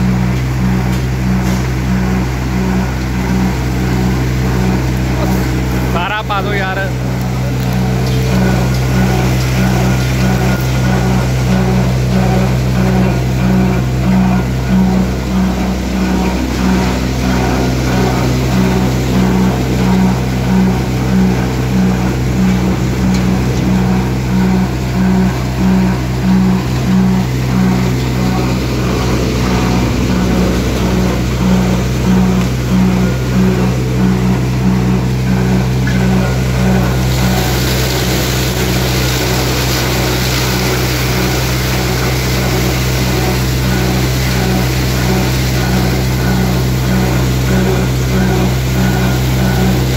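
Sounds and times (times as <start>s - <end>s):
thresher engine droning: 0.0s - 49.9s
thresher throbbing: 0.0s - 49.9s.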